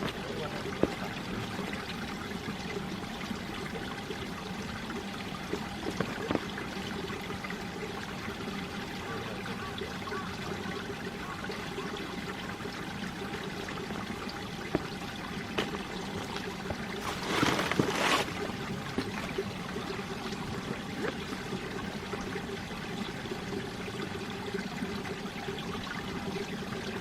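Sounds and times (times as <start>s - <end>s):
stream running over rocks: 0.0s - 27.0s.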